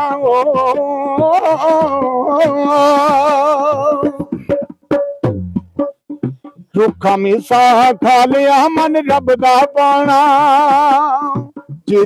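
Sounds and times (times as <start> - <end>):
man singing with vibrato: 0.0 - 5.5, 6.6 - 12.0
sharp percussive taps: 0.6 - 12.0.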